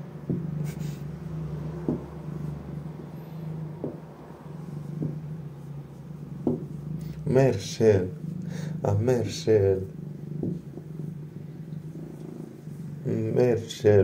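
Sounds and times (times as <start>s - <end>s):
cat purring: 1.8s - 13.8s.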